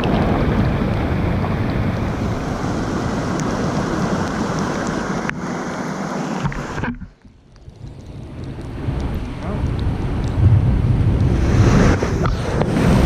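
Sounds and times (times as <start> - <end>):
ocean surf crashing: 0.0 - 7.3, 8.2 - 13.0
wind buffeting microphone: 0.0 - 13.0.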